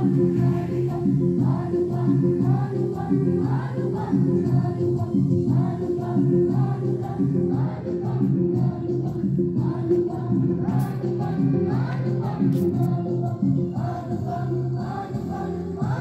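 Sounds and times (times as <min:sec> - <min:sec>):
group singing in unison: 0:00.0 - 0:16.0.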